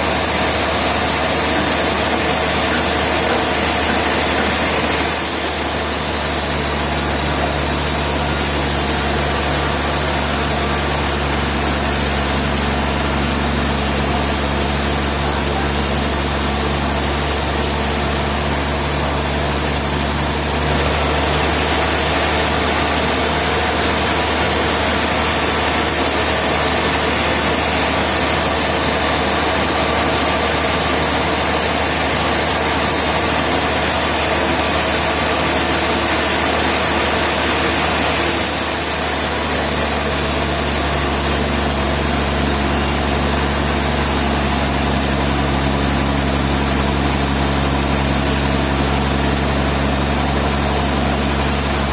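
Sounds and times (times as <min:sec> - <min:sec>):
machinery drone: 0:00.0 - 0:51.9.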